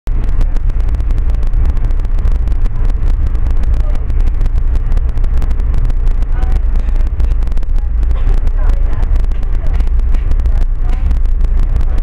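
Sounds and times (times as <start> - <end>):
rapid irregular crackle: 0.0 - 12.0
train rumbling along track: 0.1 - 12.0.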